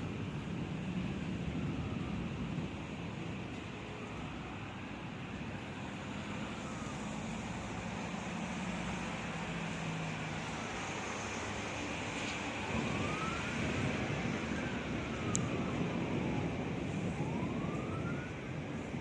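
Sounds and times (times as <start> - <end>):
distant siren wailing: 0.1 - 19.0.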